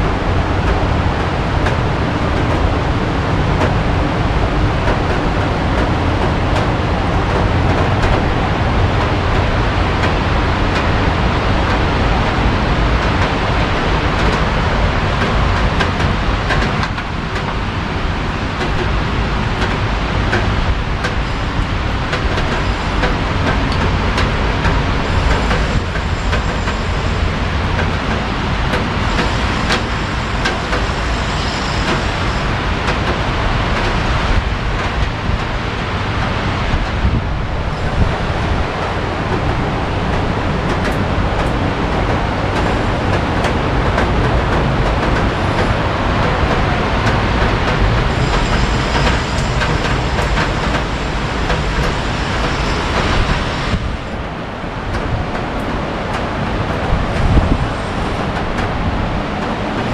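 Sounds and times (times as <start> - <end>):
road traffic rumble: 0.0 - 59.9
steady rain: 0.0 - 59.9.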